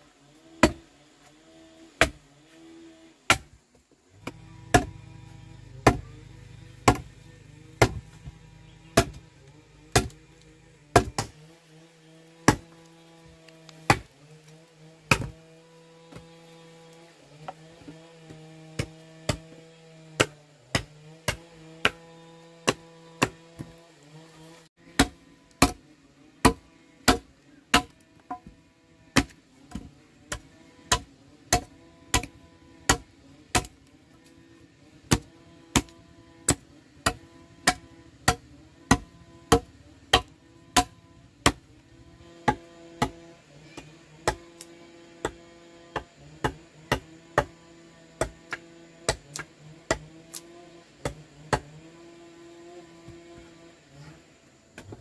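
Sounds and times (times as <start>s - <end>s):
machete chopping wooden log: 0.6s - 0.9s, 2.0s - 2.2s, 3.3s - 3.6s, 4.2s - 34.3s, 35.0s - 53.7s, 54.7s - 55.0s.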